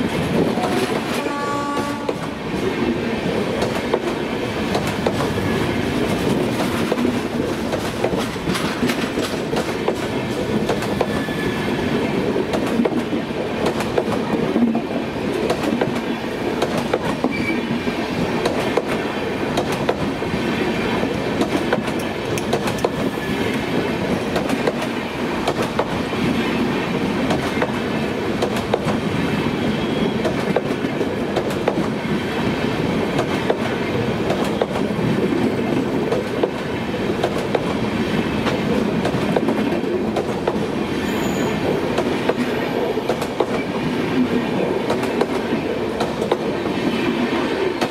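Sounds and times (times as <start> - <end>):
train wheels rumbling: 0.0 - 47.9.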